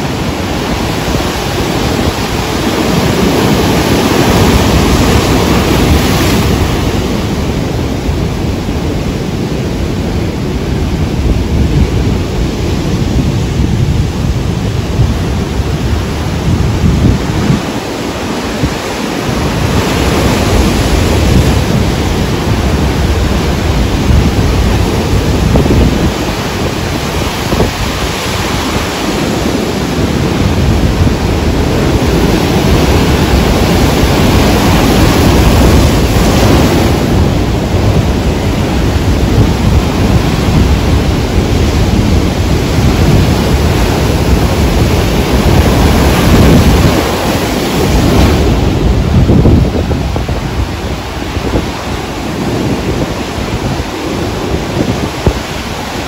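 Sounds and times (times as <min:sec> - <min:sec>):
heavy waves breaking: 0:00.0 - 0:56.0.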